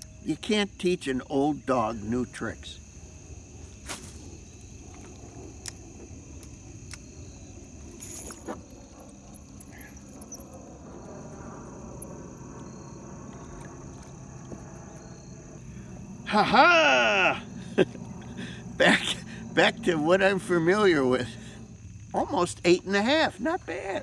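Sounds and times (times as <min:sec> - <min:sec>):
crickets trilling: 0:00.0 - 0:24.0
low rumble: 0:02.9 - 0:23.0.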